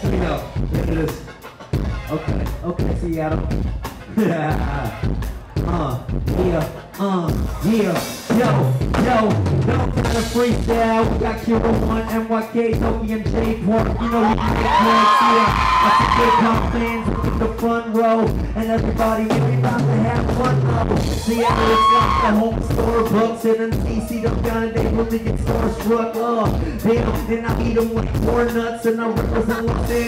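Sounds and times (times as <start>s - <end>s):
hip hop drums and beat: 0.0s - 30.0s
person singing through pa: 4.1s - 30.0s.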